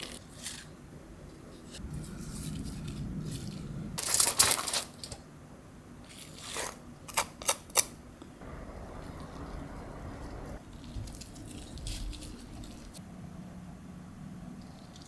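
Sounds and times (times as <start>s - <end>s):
crackling: 0.0s - 15.0s.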